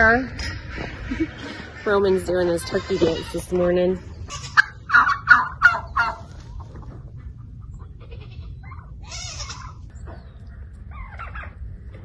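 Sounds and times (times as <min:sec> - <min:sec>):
barnyard animal calls: 0:00.0 - 0:12.0.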